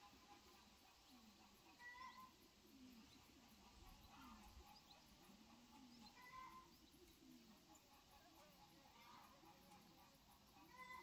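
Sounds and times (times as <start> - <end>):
faint animal calls: 0.0 - 11.0.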